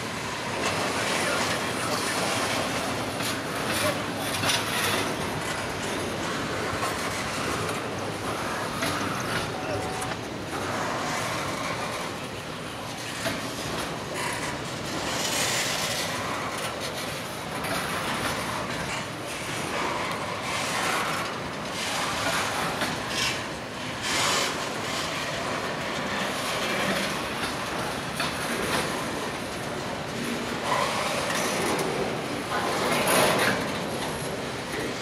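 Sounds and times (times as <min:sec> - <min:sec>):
train cars rolling on track: 0:00.0 - 0:35.0.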